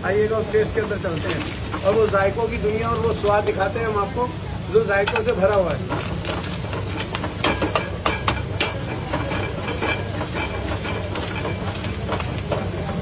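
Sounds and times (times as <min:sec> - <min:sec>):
egg frying and sizzling: 0:00.0 - 0:13.0.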